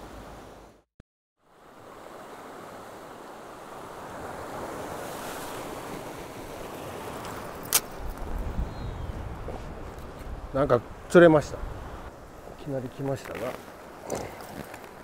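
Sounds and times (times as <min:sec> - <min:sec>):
wind: 0:00.0 - 0:15.0
waves on rocky shore: 0:01.5 - 0:08.6, 0:09.3 - 0:15.0.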